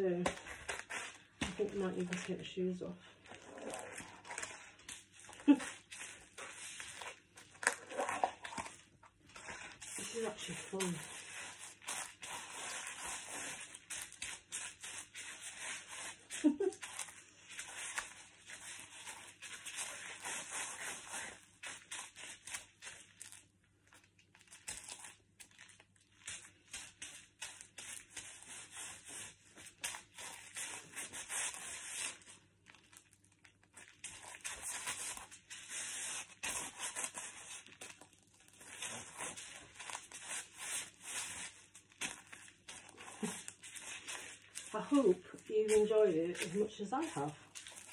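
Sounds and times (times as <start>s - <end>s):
feet crunching crisps on tiles: 0.0s - 47.9s.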